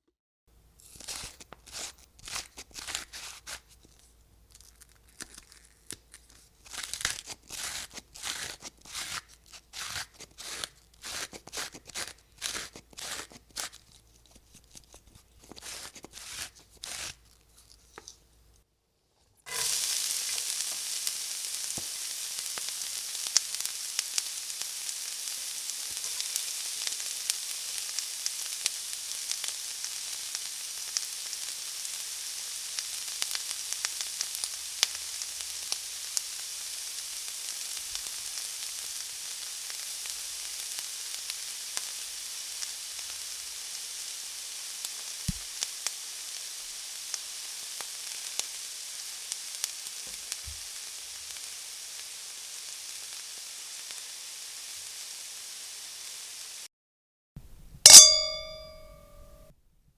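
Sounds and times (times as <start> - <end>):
food sizzling in a pan: 0.5 - 18.6, 19.5 - 56.7, 57.9 - 59.2.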